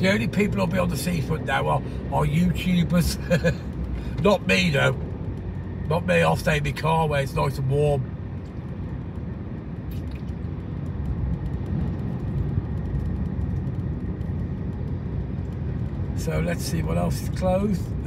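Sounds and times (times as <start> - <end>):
car driving heard from inside: 0.0 - 18.0.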